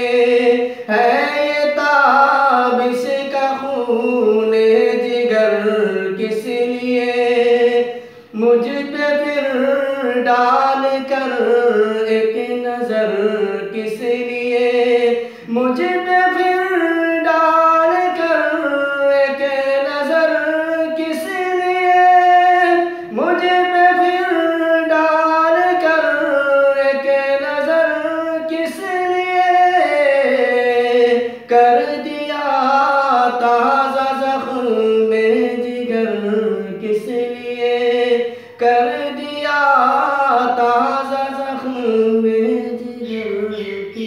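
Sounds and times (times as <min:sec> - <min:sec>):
man singing unaccompanied: 0:00.0 - 0:44.0.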